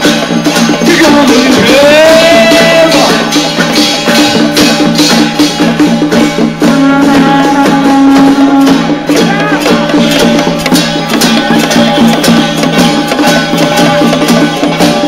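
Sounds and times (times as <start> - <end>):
cymbals: 0.0 - 15.0
drums: 0.0 - 15.0
gongs: 0.0 - 15.0.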